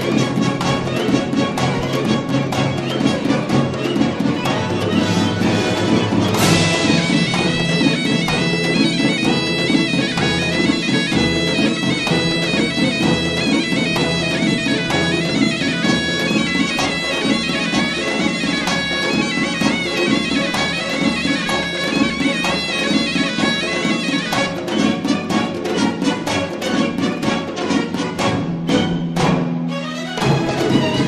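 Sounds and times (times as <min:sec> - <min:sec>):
reedy wind instrument melody: 0:00.0 - 0:25.5
drum beats: 0:00.0 - 0:31.0.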